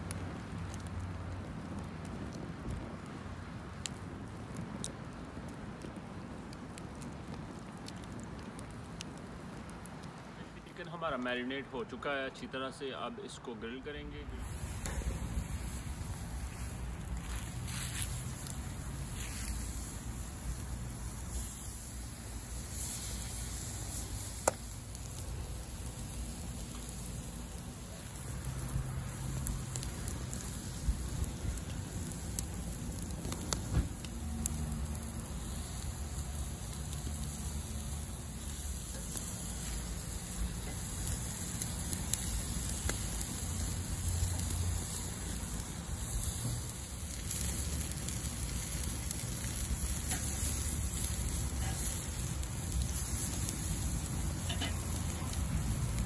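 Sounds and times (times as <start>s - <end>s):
crackles and pops: 0.0s - 11.4s, 14.2s - 56.0s
chicken sizzling on a grill: 0.0s - 56.0s.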